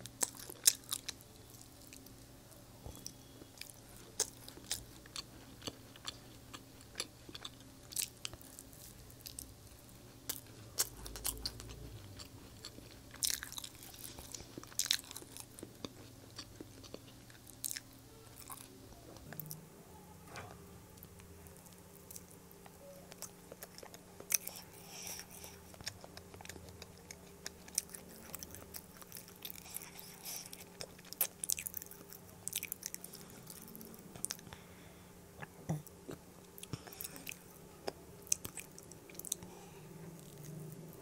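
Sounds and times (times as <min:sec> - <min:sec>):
person chewing and biting: 0:00.0 - 0:02.1, 0:02.9 - 0:19.5, 0:21.6 - 0:34.6, 0:35.4 - 0:39.6
faint low hum: 0:00.0 - 0:41.0.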